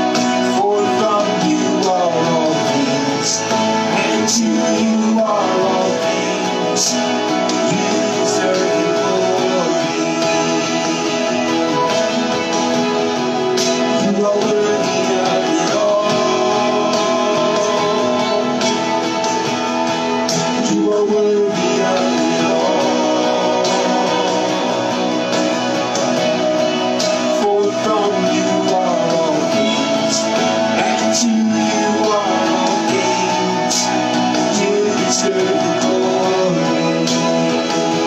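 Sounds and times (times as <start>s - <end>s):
guitar: 0.0s - 38.0s
live worship band: 0.0s - 38.0s.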